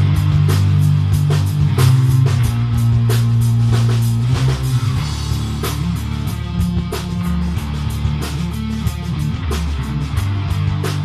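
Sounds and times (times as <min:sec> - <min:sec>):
drum hits: 0:00.0 - 0:11.0
rock band playing: 0:00.0 - 0:11.0.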